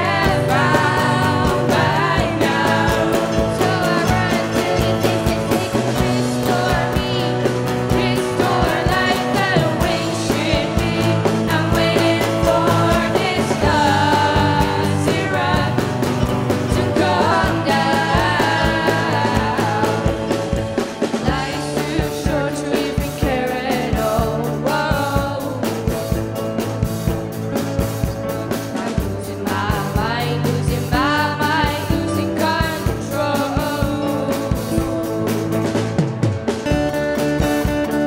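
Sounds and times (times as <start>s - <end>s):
person singing: 0.0s - 20.5s, 21.2s - 26.2s, 28.4s - 35.2s
live rock band playing: 0.0s - 38.0s.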